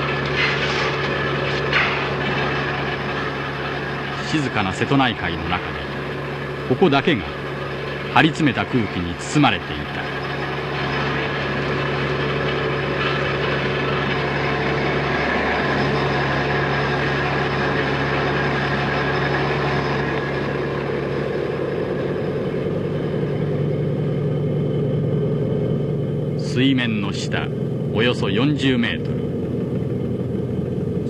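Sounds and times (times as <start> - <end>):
heavy engines humming: 0.0 - 31.0.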